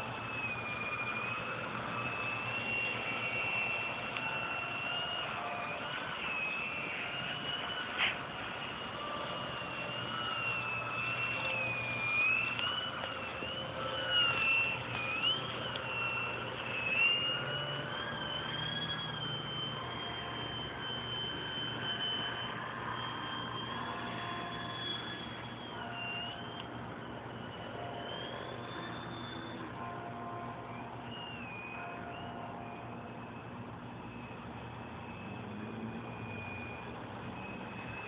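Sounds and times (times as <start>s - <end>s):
model plane propeller whine: 0.0s - 38.0s.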